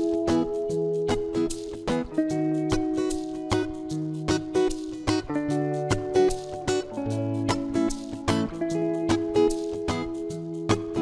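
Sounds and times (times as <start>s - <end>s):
plucked guitar music with beat: 0.0s - 11.0s.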